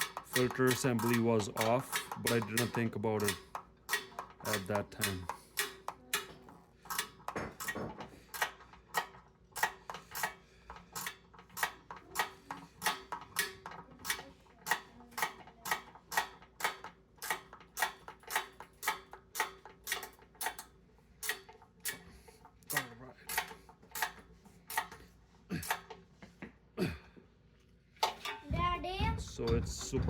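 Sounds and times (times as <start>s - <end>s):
ratcheting wrench clicking: 0.0s - 26.0s.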